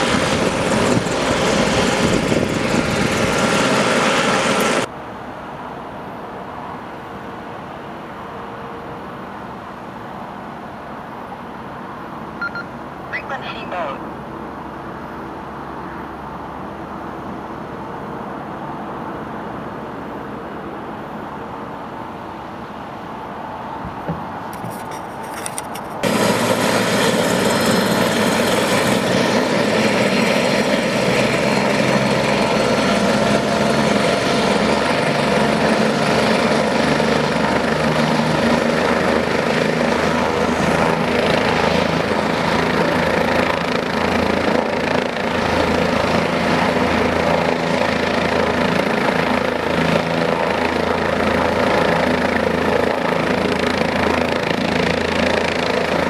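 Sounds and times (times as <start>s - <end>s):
helicopter turbine and rotor running: 0.0s - 5.2s, 8.6s - 56.0s.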